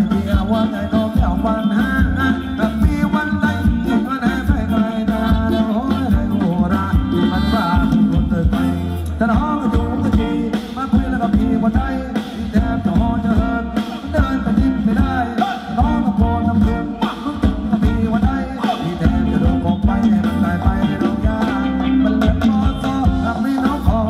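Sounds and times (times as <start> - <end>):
band drum beat and bass: 0.0 - 24.0
person singing: 0.0 - 24.0.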